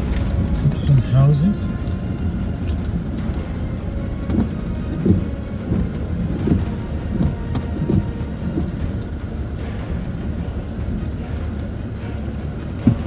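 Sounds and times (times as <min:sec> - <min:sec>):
car interior low rumble: 0:00.0 - 0:13.0
short thuds: 0:00.0 - 0:13.0.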